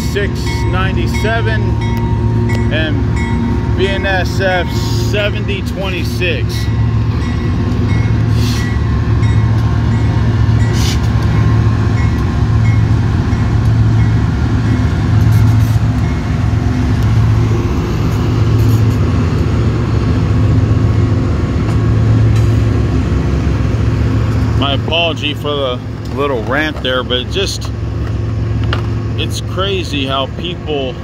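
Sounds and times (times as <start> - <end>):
diesel locomotive engine drone: 0.0 - 31.0
freight cars rolling by: 0.0 - 31.0
train wheels on rails: 0.0 - 31.0.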